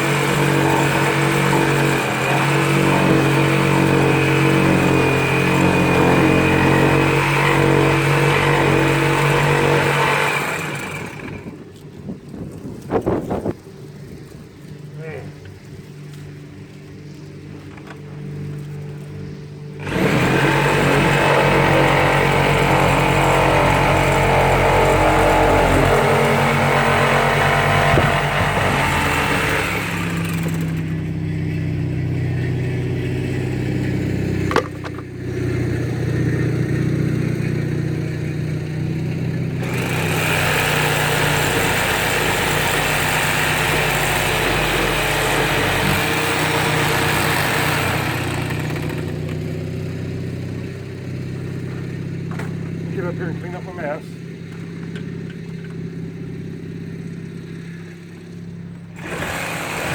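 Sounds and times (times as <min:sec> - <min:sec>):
loud noisy whirring: 0:00.0 - 0:11.8, 0:14.5 - 0:50.2, 0:57.6 - 0:59.9
motor running steadily: 0:00.0 - 0:59.9.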